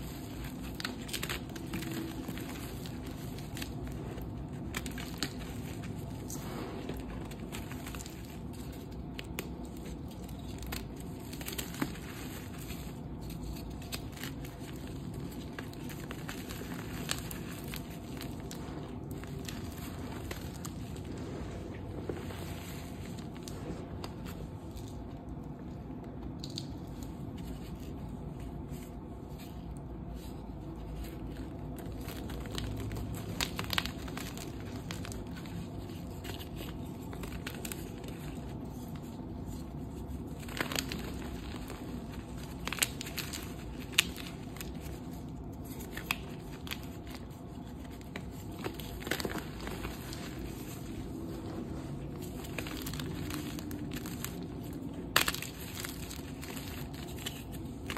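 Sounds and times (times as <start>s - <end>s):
chalk pieces snapping: 0.0s - 21.2s, 26.0s - 28.0s, 31.0s - 57.9s
chalk crunching and crackling: 0.0s - 57.9s.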